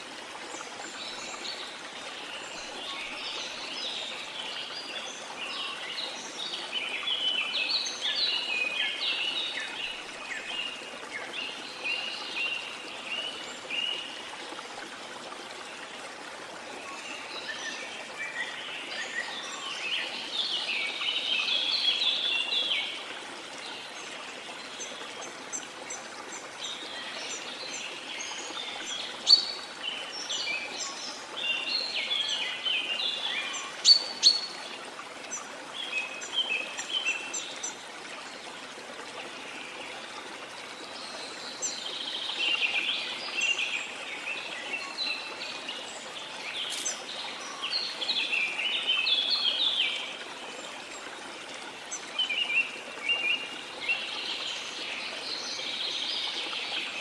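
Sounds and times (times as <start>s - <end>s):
rushing water: 0.0s - 57.0s
songbirds chirping: 0.5s - 57.0s.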